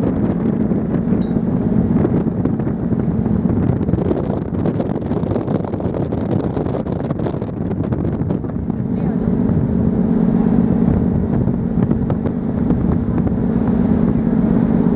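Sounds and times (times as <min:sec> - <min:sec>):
low rumble from ship: 0:00.0 - 0:14.9
wind buffeting microphone: 0:00.0 - 0:14.9.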